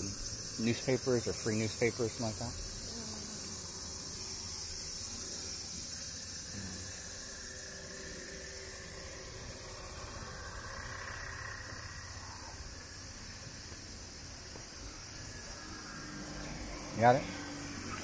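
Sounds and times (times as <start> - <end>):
cicadas buzzing: 0.0 - 18.0.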